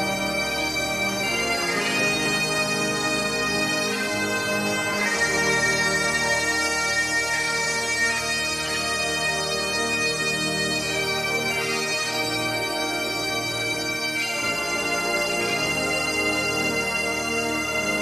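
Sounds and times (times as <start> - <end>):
bagpipes playing slow melody: 0.0 - 18.0.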